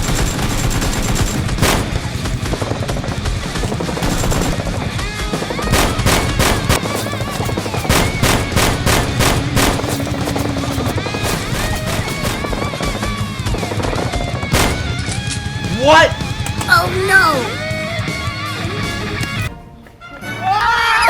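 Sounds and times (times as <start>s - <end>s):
gunshots: 0.0s - 16.9s
background music: 0.0s - 21.0s.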